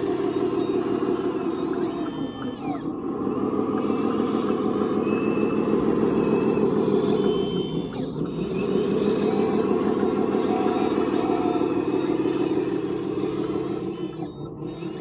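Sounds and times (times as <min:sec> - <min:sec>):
buzzing motor and gear drone: 0:00.0 - 0:15.0.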